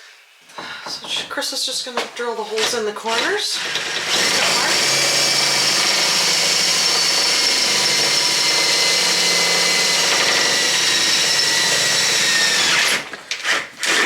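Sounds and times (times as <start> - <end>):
electric drill whining: 2.6 - 14.0.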